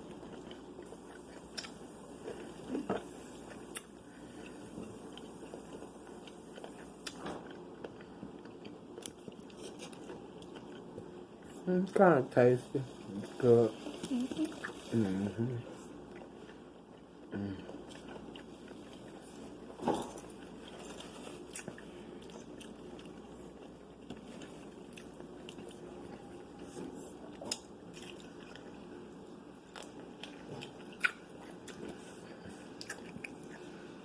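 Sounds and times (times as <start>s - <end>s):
chewing fried food crunches: 0.0s - 11.6s, 17.7s - 33.8s.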